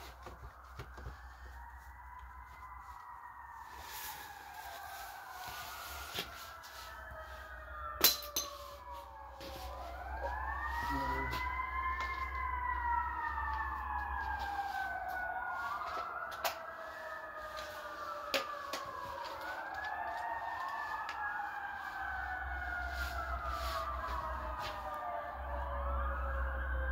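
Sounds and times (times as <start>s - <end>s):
emergency vehicle sirens wailing: 0.0s - 26.9s.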